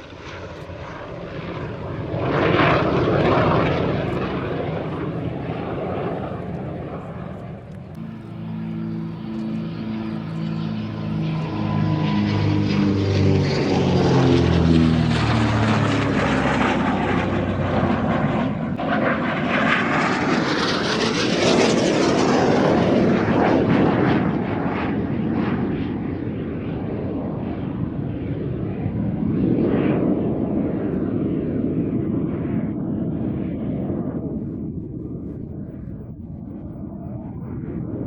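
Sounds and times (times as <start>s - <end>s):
jet roar: 0.0s - 38.0s
propeller drone: 0.0s - 38.0s.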